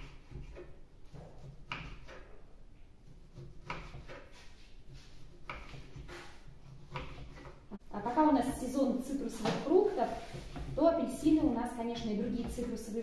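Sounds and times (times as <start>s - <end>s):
knife cutting oranges: 0.0s - 12.9s.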